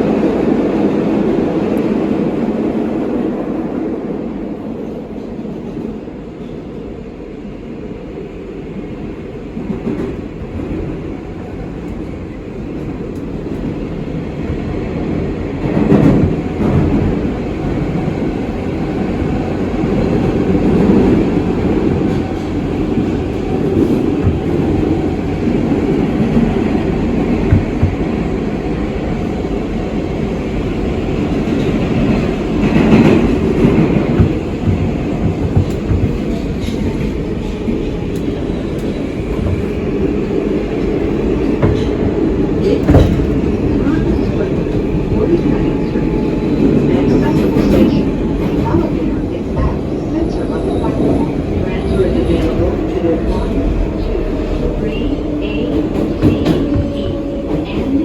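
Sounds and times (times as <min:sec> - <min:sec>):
subway wheels on rail: 0:00.0 - 0:58.0.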